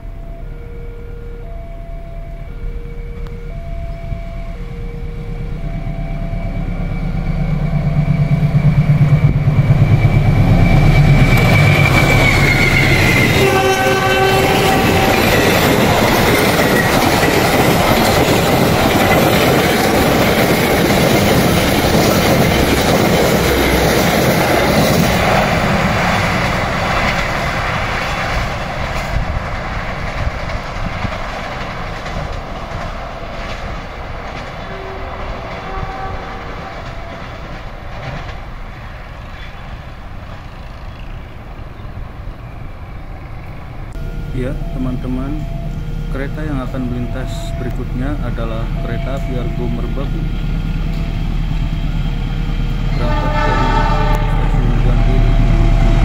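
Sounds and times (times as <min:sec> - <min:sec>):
passenger train passing: 0:00.0 - 0:56.0.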